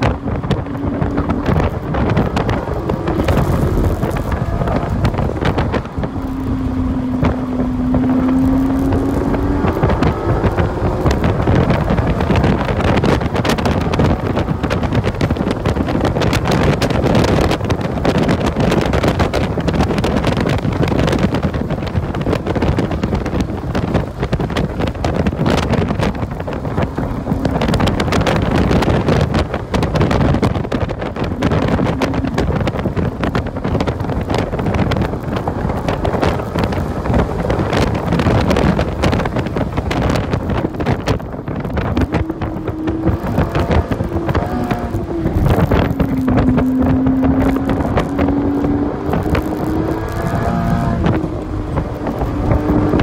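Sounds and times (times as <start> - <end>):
car engine driven hard: 0.0 - 53.0
wind and road noise: 0.0 - 53.0.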